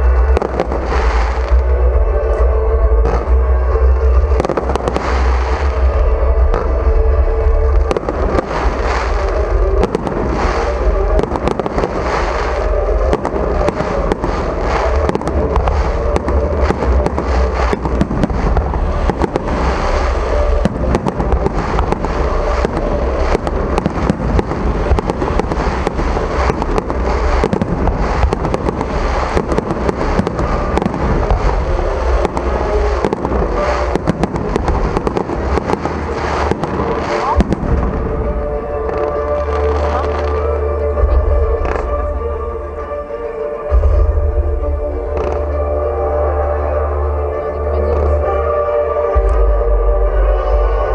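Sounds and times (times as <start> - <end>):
deep rumble of booms: 0.0 - 46.1
fireworks bangs and crackling: 0.0 - 50.9.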